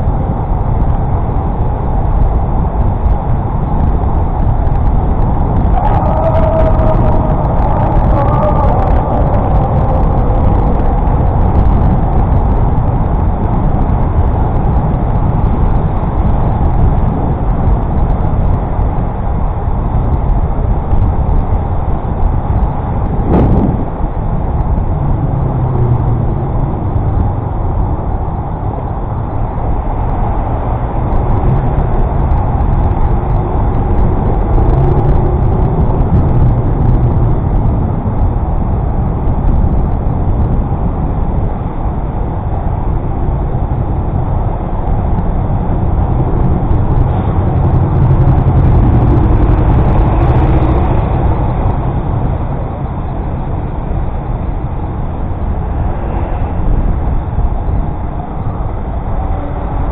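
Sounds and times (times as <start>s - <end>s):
city road traffic: 0.0s - 59.9s.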